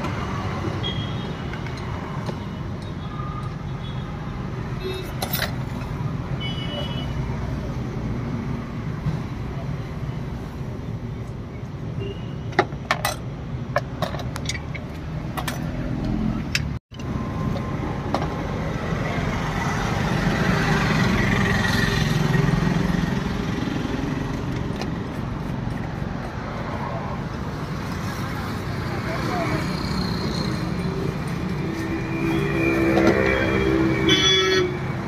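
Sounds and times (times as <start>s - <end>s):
roadside traffic noise: 0.0s - 35.0s.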